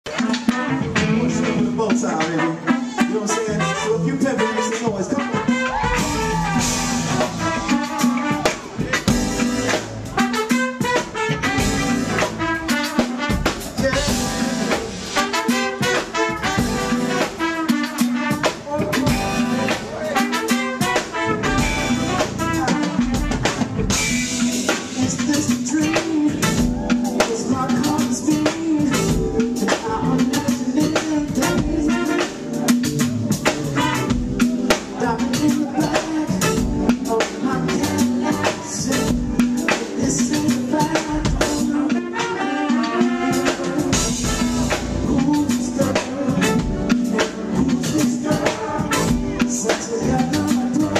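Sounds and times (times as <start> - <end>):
band playing: 0.0 - 50.9
drum kit beat: 0.0 - 50.9
man singing: 0.1 - 50.9.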